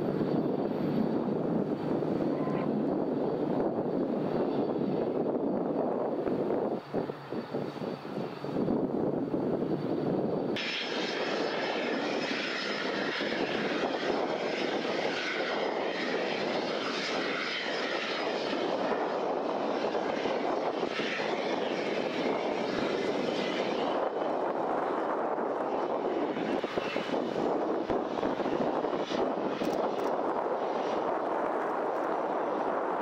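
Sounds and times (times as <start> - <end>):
jet engine rushing: 0.0 - 33.0.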